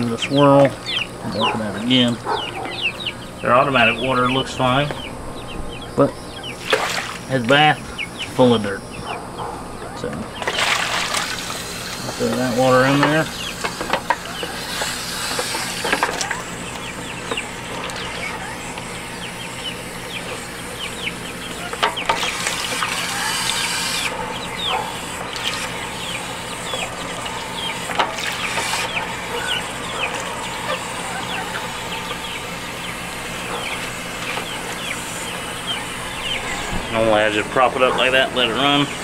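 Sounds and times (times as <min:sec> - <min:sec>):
chicks peeping and cheeping: 0:00.0 - 0:39.0.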